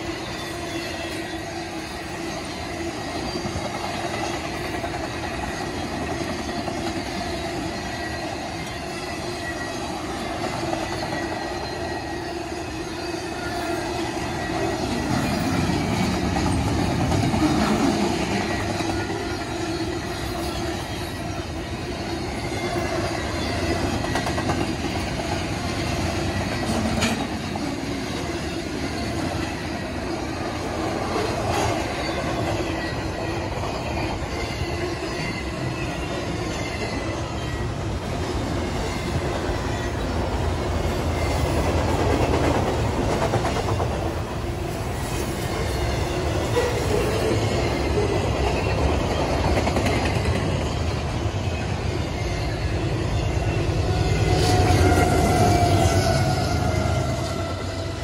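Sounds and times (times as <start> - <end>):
steel wheels on rail: 0.0 - 58.0.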